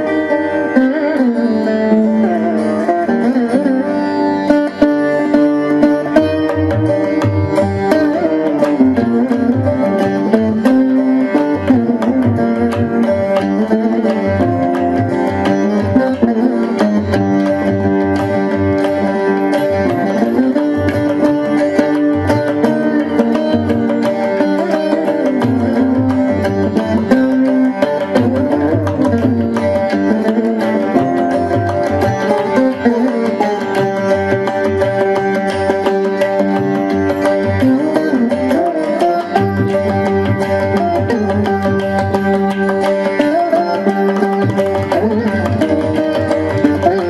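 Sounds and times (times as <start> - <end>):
plucked veena melody: 0.0 - 47.0.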